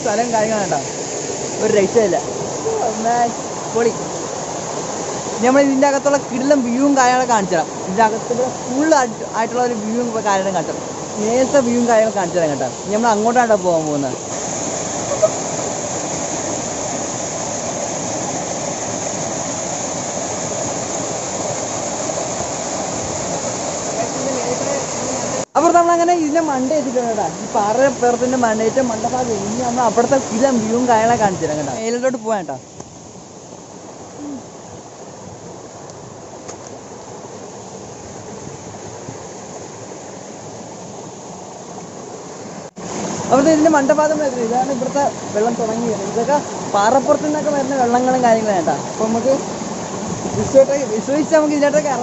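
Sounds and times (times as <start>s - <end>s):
small waterfall rushing: 0.0s - 52.0s.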